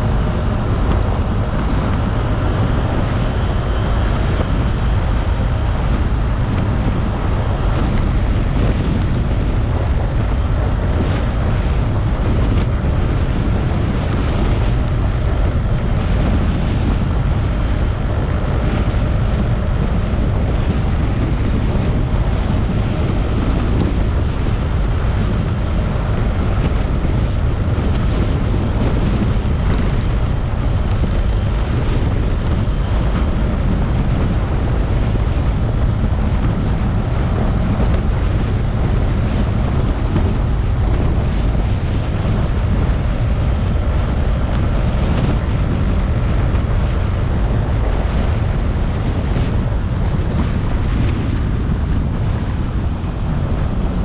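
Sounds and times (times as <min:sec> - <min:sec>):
motorcycle road noise: 0:00.0 - 0:54.0
wind rush: 0:00.0 - 0:54.0.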